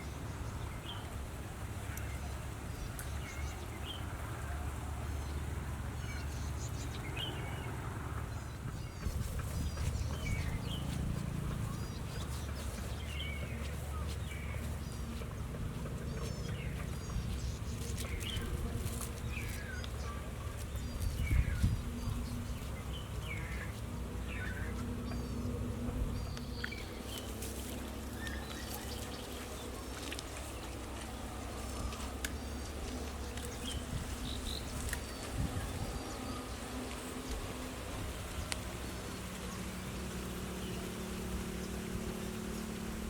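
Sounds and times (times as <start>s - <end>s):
low steady buzzing hum: 0.0s - 43.0s.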